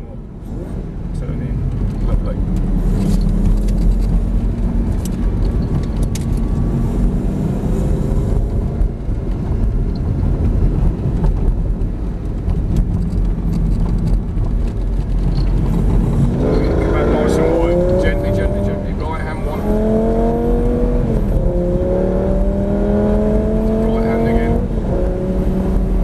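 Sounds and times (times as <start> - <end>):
car engine at part throttle: 0.0 - 26.0
tyre and wind noise: 1.5 - 26.0.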